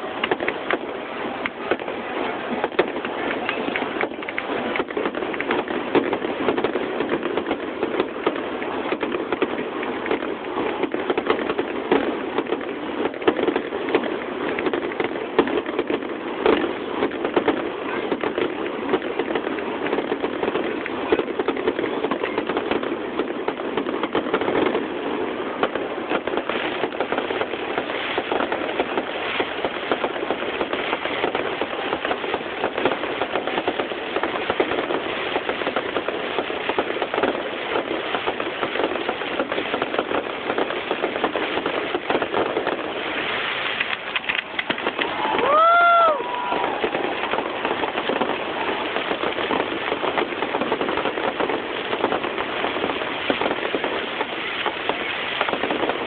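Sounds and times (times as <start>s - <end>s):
fireworks popping and crackling: 0.0s - 56.0s.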